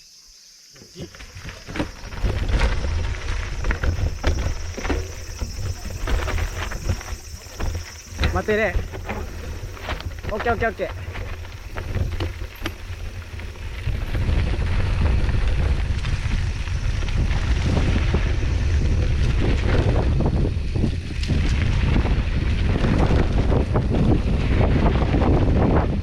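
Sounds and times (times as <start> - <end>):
bike rattling over rough ground: 0.9 - 26.0
wind buffeting microphone: 1.3 - 26.0.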